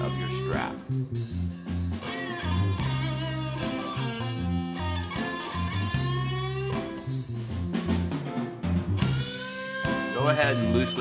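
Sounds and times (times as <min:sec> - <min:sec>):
guitar with bending notes: 0:00.0 - 0:01.0, 0:02.0 - 0:07.8, 0:09.0 - 0:11.0
bass line: 0:00.0 - 0:11.0.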